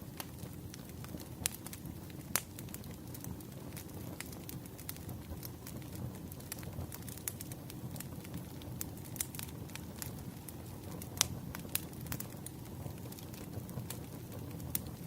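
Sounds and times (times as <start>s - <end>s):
low rush of flames: 0.0s - 15.0s
wood fire crackling and popping: 0.0s - 15.0s.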